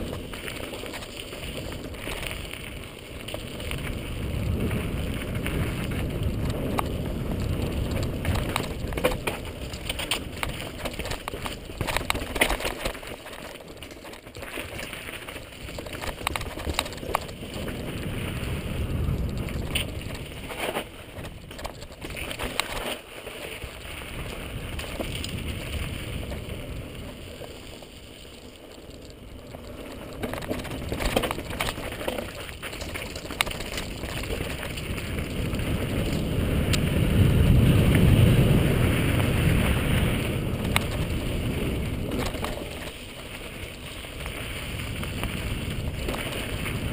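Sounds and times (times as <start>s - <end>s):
bike clattering over rocks: 0.0s - 3.9s, 5.0s - 37.0s, 39.7s - 46.9s
wind on microphone: 0.0s - 13.4s, 15.5s - 22.9s, 29.3s - 46.9s
bike tyres rolling over rock and gravel: 0.0s - 46.9s.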